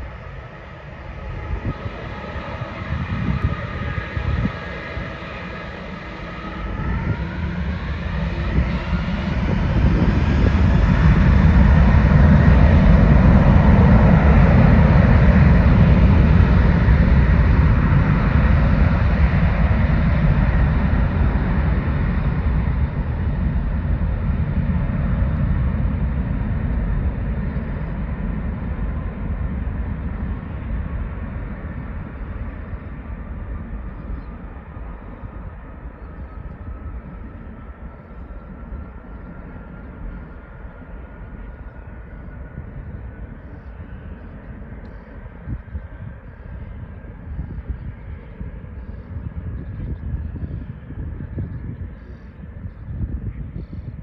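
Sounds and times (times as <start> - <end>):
deep jet rumble: 0.0 - 54.0
jet engines whining: 0.0 - 54.0.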